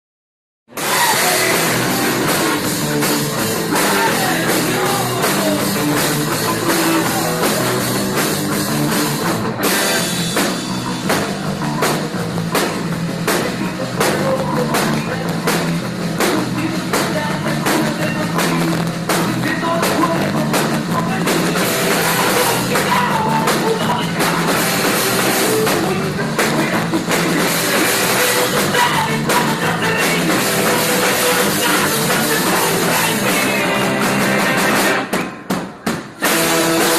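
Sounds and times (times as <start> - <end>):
electric guitar: 0.7 - 35.5, 36.1 - 36.9
driving drum kit beat: 0.7 - 36.9
live rock band playing: 0.7 - 36.9.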